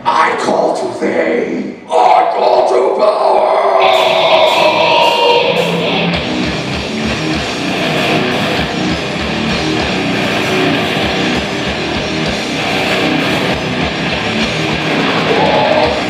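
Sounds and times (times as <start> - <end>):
distorted electric guitars riff: 1.9 - 16.0.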